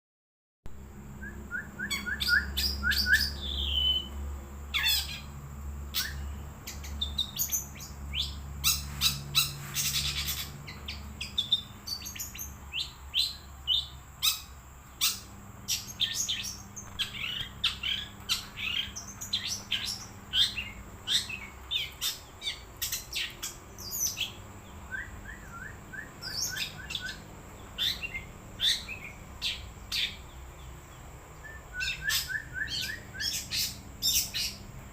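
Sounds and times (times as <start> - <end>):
steady low hum: 0.7 - 34.9
bird singing chirps and whistles: 1.1 - 4.2, 5.9 - 30.4, 31.4 - 34.6.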